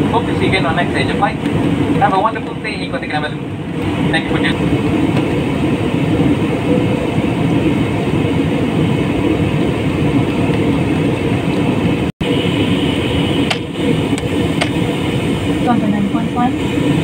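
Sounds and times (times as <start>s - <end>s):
jet cabin engine drone: 0.0s - 17.0s.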